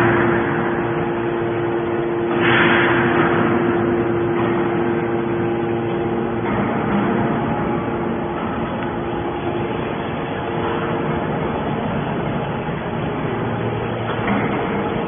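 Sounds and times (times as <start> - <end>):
hydraulic motor hum: 0.0 - 15.0.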